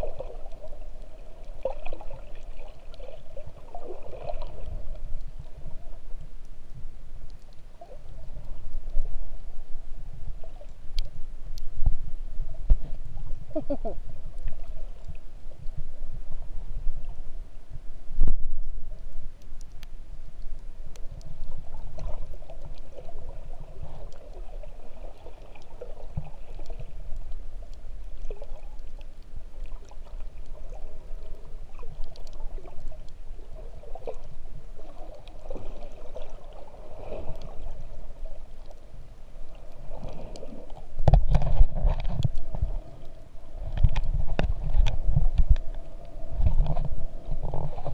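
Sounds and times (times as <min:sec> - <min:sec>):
water gurgling: 0:00.0 - 0:17.4, 0:20.4 - 0:47.9
underwater water rumble: 0:00.0 - 0:47.9.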